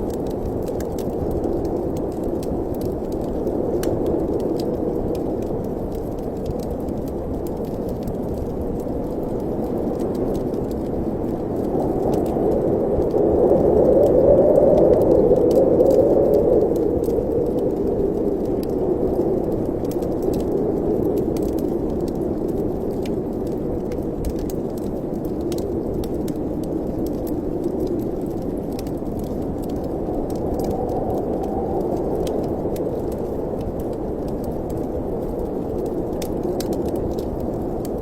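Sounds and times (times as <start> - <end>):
low rush of wind: 0.0 - 38.0
wood fire crackling: 0.0 - 38.0.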